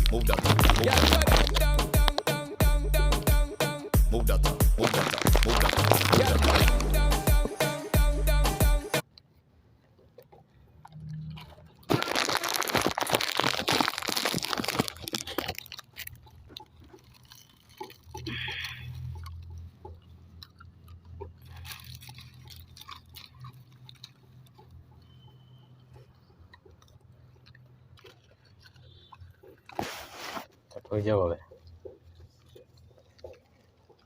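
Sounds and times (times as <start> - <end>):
loud crunching and crackling: 0.0 - 34.0.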